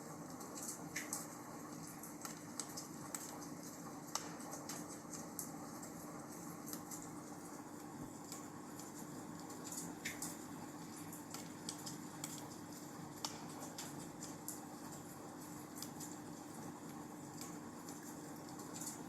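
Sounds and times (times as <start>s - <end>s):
wood fire crackling: 0.1s - 19.0s.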